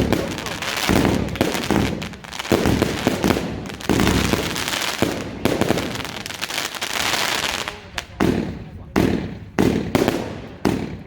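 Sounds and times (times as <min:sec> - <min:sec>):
crackle of bursting fireworks: 0:00.0 - 0:11.0
firework launch reports: 0:00.0 - 0:11.0.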